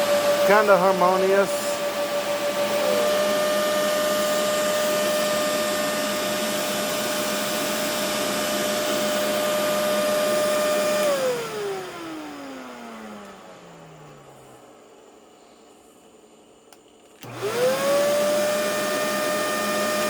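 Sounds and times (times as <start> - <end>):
vacuum motor whining: 0.0 - 14.5, 17.2 - 20.0.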